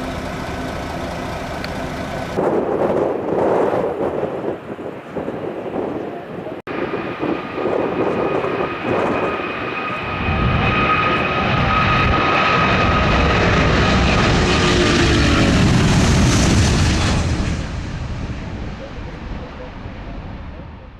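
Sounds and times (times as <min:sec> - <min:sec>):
jetliner engines passing: 0:00.0 - 0:20.9.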